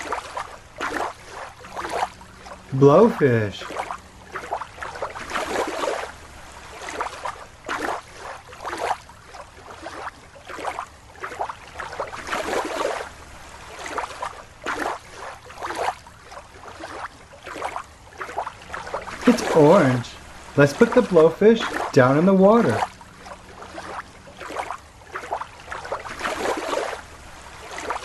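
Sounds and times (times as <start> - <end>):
water sloshing and splashing: 0.0 - 28.0.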